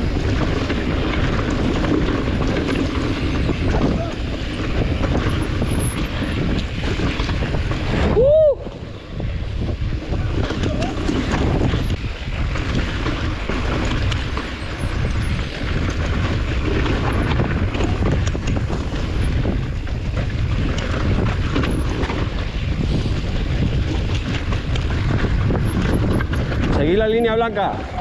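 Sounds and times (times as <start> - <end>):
bike tyres clicking on rock: 0.0 - 28.0
wind buffeting microphone: 0.0 - 28.0.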